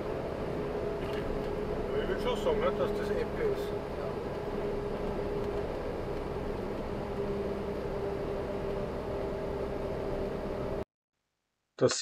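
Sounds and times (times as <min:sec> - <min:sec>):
truck engine and road noise: 0:00.0 - 0:10.8.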